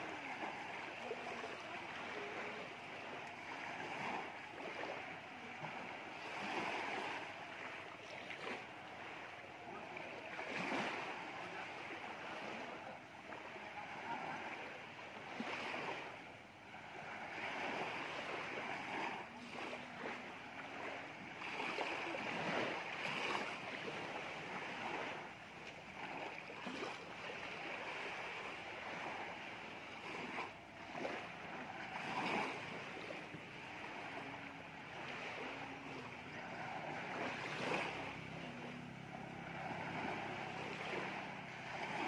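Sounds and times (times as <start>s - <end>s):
small waves washing on sand: 0.0s - 42.0s.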